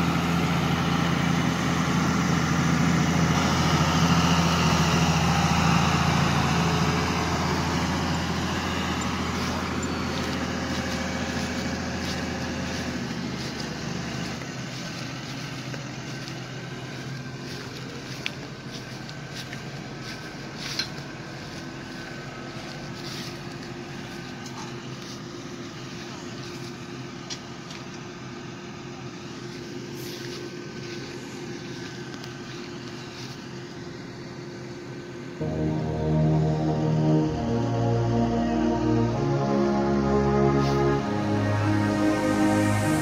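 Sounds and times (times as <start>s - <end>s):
diesel tractor engine running: 0.0s - 43.0s.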